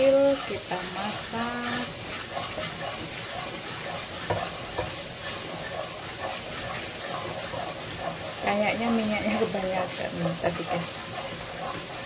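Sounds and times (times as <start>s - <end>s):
spatula knocking on pan: 0.0s - 12.0s
sugar and oil frying: 0.0s - 12.0s
wooden spatula stirring: 0.0s - 12.0s.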